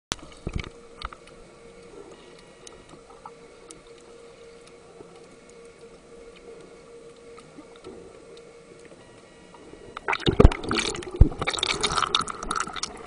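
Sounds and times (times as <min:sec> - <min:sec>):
faint clicks and ticks: 0:00.1 - 0:13.0
underwater hum with steady tone: 0:00.1 - 0:13.0.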